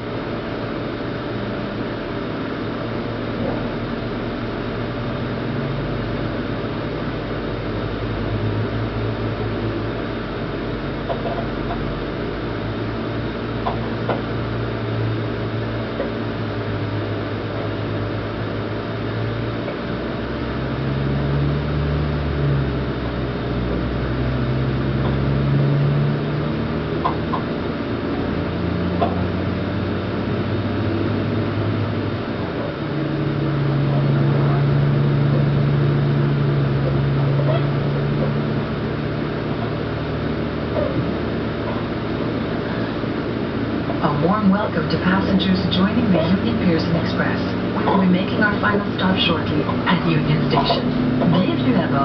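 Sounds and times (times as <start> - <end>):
train engine hum: 0.0 - 52.0.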